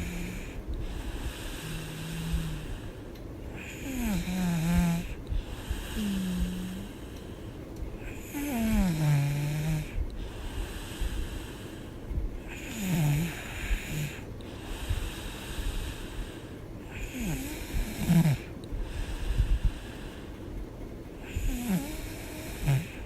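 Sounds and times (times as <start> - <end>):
woman snoring: 0.0 - 7.2, 8.0 - 16.2, 16.9 - 20.0, 21.2 - 23.0.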